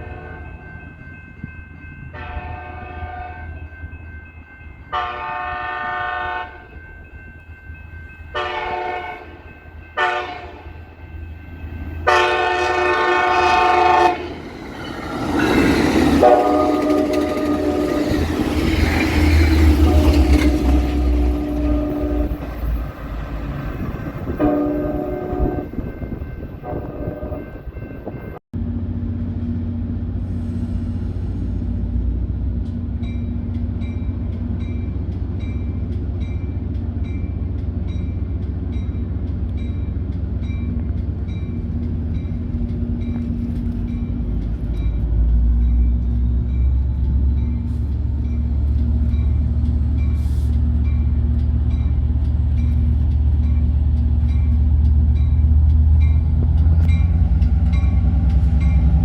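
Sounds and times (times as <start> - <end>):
diesel train rumbling: 0.0 - 59.0.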